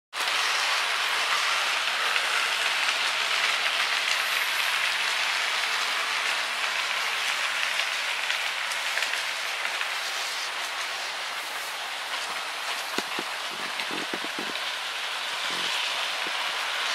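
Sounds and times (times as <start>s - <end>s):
model trains rolling on track: 0.2s - 16.9s.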